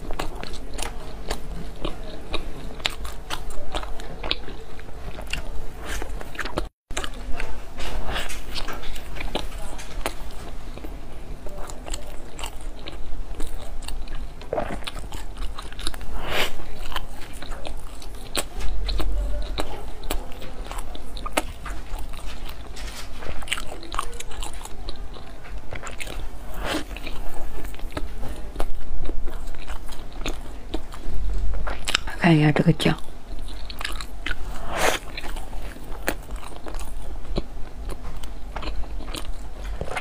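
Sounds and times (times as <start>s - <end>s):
chewing soft bread: 0.0s - 32.2s, 32.8s - 40.0s.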